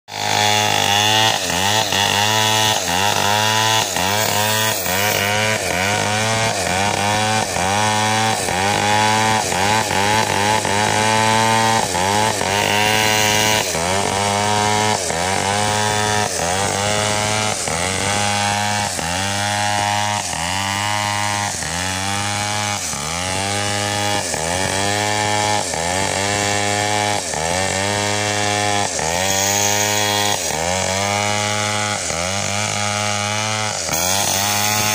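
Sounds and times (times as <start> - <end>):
chainsaw cutting log: 0.1 - 34.9.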